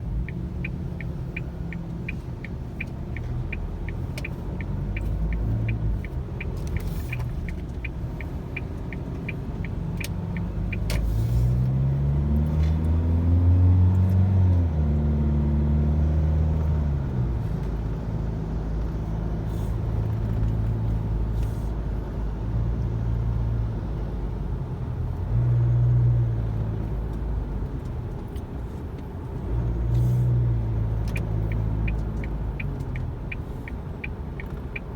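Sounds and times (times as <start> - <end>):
road rumble: 0.0 - 34.9.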